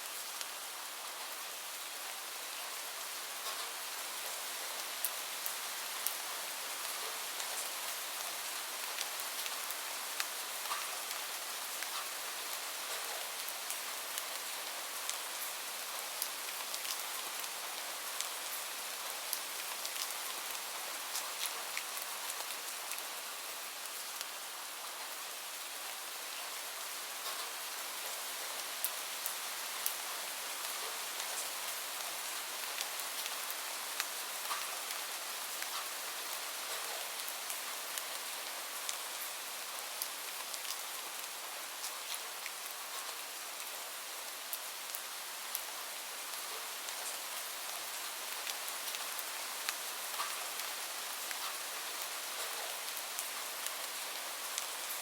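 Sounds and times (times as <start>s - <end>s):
raindrops ticking on a surface: 0.0s - 1.4s, 3.4s - 55.0s
steady rainfall: 0.0s - 55.0s.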